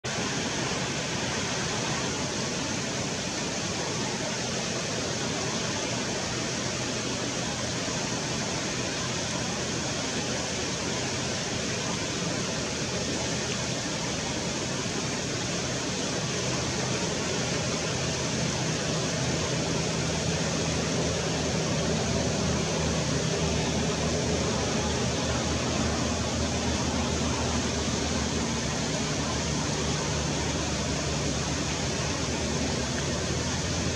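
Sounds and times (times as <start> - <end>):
river rushing over riffles: 0.0 - 33.9.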